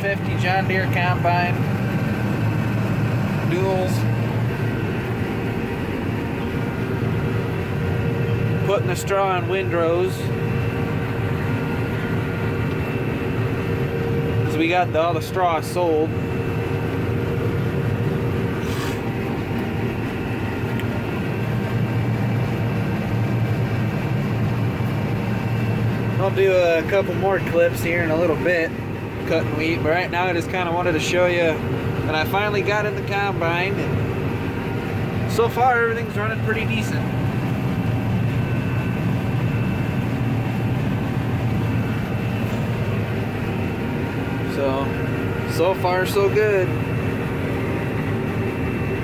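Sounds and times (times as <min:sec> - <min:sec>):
combine harvester engine drone: 0:00.0 - 0:49.0
faint steady tones: 0:00.0 - 0:49.0.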